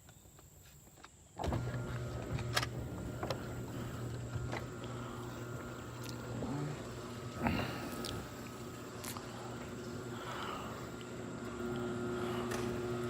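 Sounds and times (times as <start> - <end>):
garage door opener running: 1.4 - 13.0.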